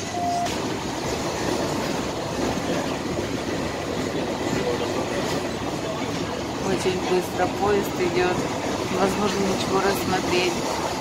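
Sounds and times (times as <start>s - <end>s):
train running inside carriage: 0.0s - 11.0s.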